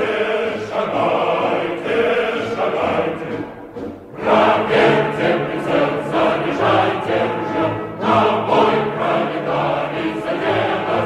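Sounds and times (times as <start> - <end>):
choir singing with accompaniment: 0.0 - 11.0.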